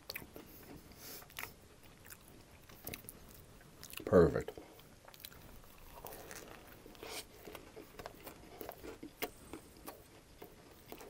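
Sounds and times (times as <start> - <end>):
mouth chewing wet clicks: 0.0 - 0.6, 1.2 - 11.0
soft crunches of chewing: 0.0 - 11.0.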